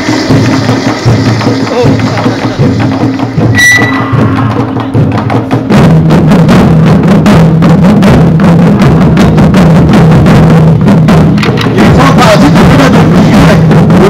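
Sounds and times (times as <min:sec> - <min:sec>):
backing music with bass line: 0:00.0 - 0:14.0
taiko drums struck rapidly: 0:00.0 - 0:14.0.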